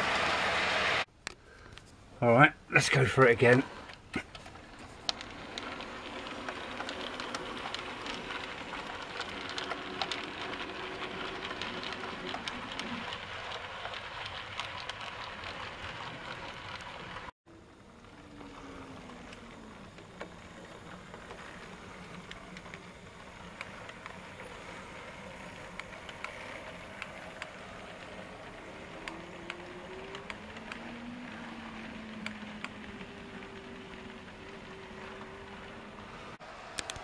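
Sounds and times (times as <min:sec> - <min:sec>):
wheels rumbling on rail: 0:00.0 - 0:01.1, 0:02.3 - 0:37.0
wheels clicking over rail joints: 0:00.0 - 0:37.0
model train motor whine: 0:02.9 - 0:37.0.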